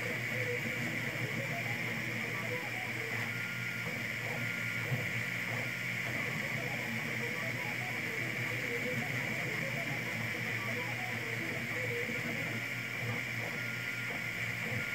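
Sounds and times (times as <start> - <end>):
fan hiss: 0.0 - 14.9
stepper motors whining: 0.0 - 14.9.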